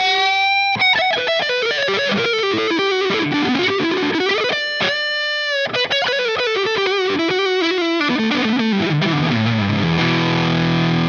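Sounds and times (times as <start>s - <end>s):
electric guitar lead line: 0.0s - 11.0s.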